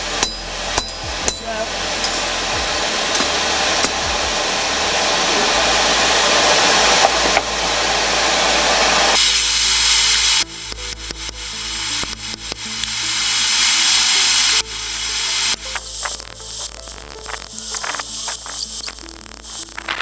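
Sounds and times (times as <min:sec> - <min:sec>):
forge rushing noise: 0:00.0 - 0:20.0
sharp high hiss: 0:00.0 - 0:20.0.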